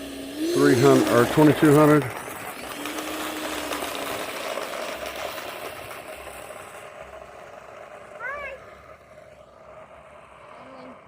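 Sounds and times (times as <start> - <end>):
electric ducted fan whirring: 0.0 - 11.0.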